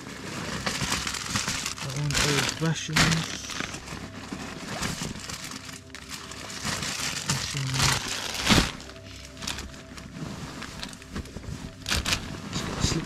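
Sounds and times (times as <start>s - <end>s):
bags and packs rustling: 0.0s - 13.0s.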